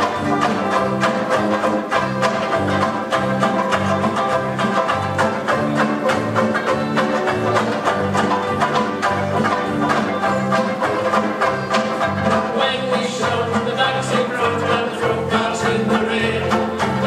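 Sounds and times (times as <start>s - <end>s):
banjoleles strummed: 0.0s - 17.0s.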